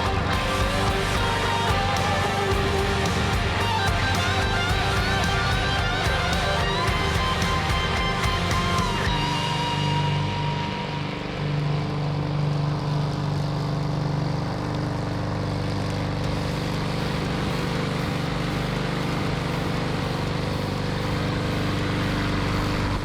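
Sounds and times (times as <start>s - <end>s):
lawnmower engine running: 0.0s - 23.0s.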